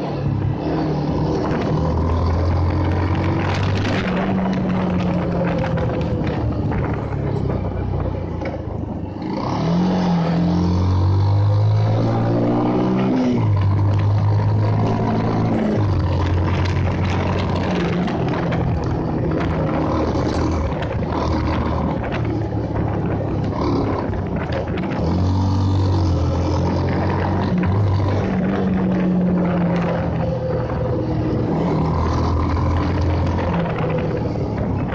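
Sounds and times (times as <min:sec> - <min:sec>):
motorcycle engine accelerating: 0:00.0 - 0:34.9
wind and road noise: 0:00.0 - 0:34.9.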